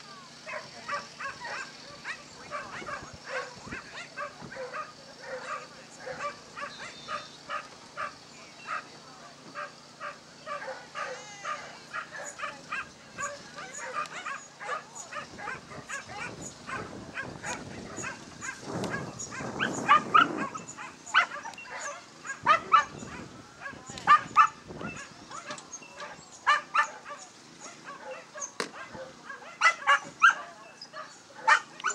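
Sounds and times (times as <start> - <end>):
dog yelping: 0.5 - 8.8, 9.6 - 31.9.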